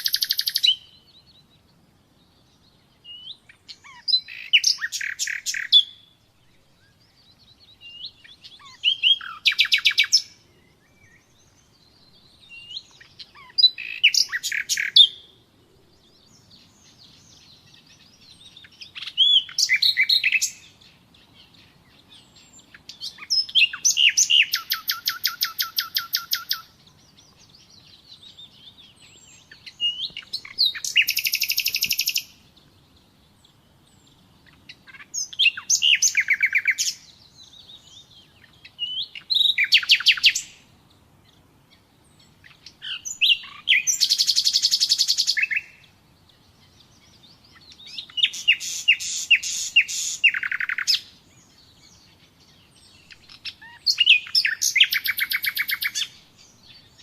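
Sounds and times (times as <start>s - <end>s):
faint bird chirps: 0.0s - 57.0s
nightingale singing trills: 0.0s - 57.0s.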